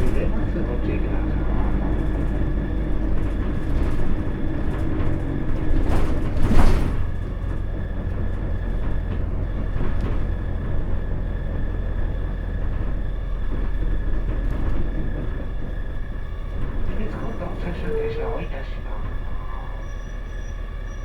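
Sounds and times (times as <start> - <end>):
bus engine drone with whine: 0.0 - 21.0.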